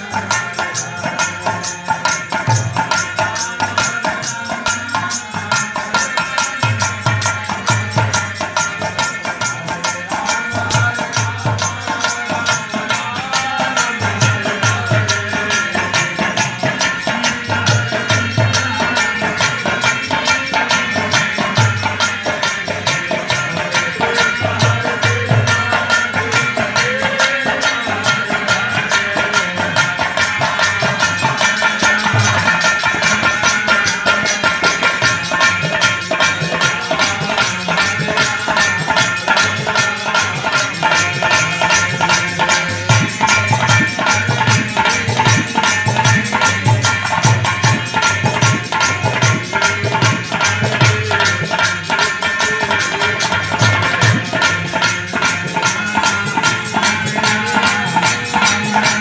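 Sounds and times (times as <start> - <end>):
hand drum beating: 0.0 - 59.0
rattling and jingling percussion: 0.0 - 59.0.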